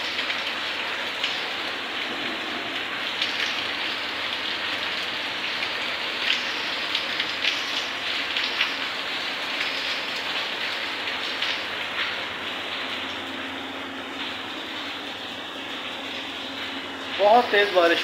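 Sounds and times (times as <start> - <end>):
heavy rain pouring: 0.0 - 18.0
raindrops spattering on surfaces: 0.0 - 18.0.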